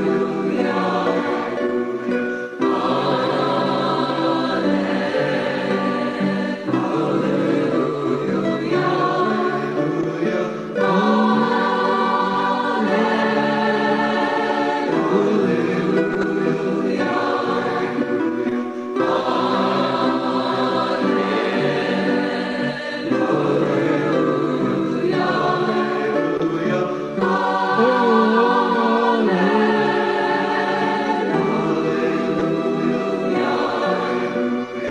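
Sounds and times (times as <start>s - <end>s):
choir singing sustained chords: 0.0s - 34.9s.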